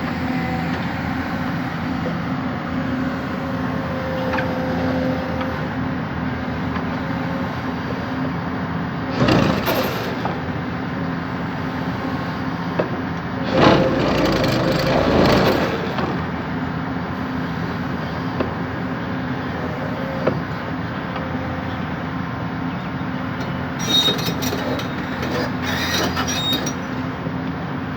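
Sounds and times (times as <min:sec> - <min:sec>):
excavator diesel engine running: 0:00.0 - 0:27.9.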